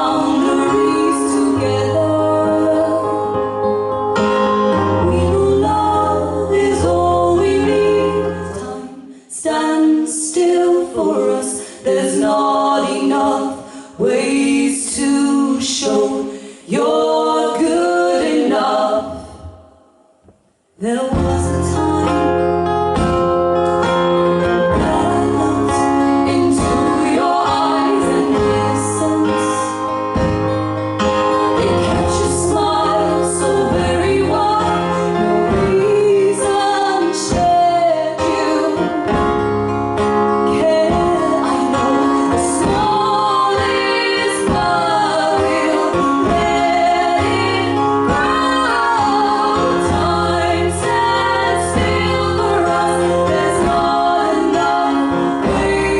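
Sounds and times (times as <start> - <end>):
women singing: 0.0 - 3.8, 4.8 - 19.8, 20.8 - 23.2, 23.8 - 55.9.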